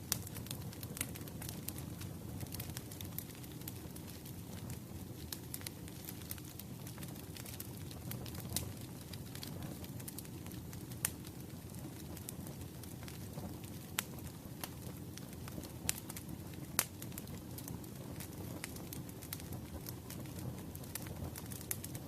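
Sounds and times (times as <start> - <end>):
firewood crackling and popping: 0.0 - 22.0
wood fire rumbling: 0.0 - 22.0.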